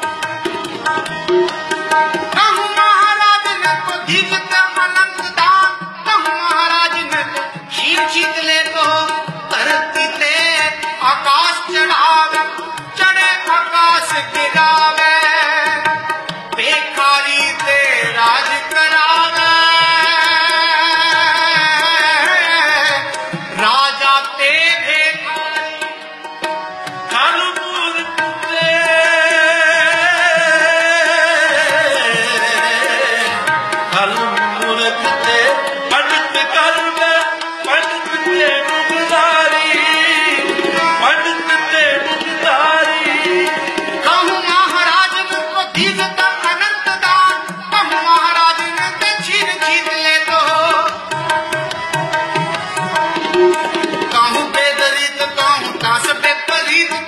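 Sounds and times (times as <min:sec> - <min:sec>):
harmonium: 0:00.0 - 0:57.0
tabla drums: 0:00.0 - 0:57.0.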